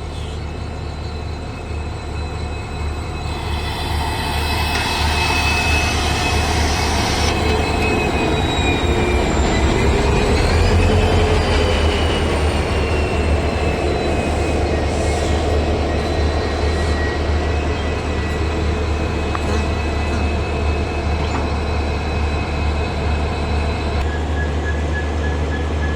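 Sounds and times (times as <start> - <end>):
train rumbling: 0.0 - 25.9
high whining tones: 1.1 - 25.4.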